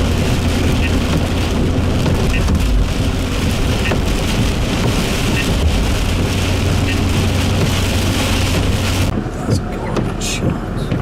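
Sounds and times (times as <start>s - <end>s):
low thunder rumble: 0.0s - 9.7s
heavy rain and wind rushing: 0.0s - 11.0s.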